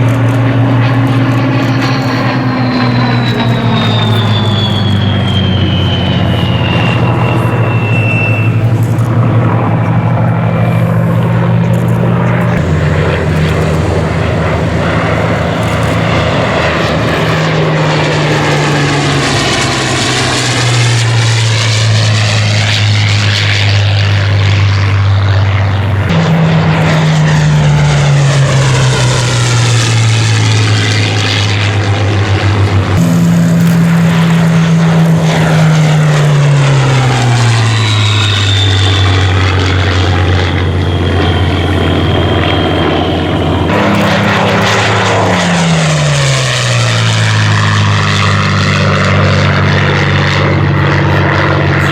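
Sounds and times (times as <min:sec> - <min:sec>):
aircraft piston engines flying past: 0:00.0 - 0:51.9.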